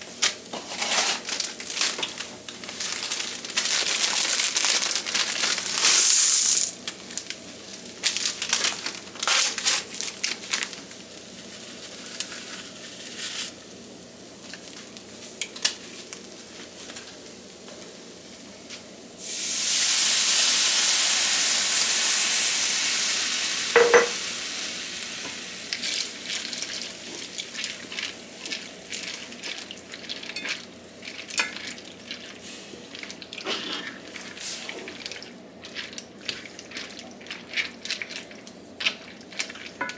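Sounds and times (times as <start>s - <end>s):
food sizzling in a pan: 0.0s - 35.1s.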